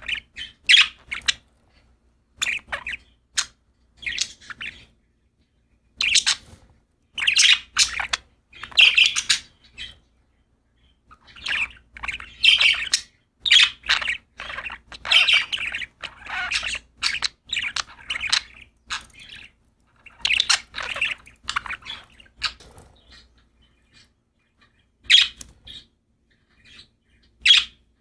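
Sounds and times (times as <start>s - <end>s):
budgerigars chirping: 0.0s - 1.8s, 2.4s - 5.0s, 5.9s - 10.2s, 10.8s - 27.9s.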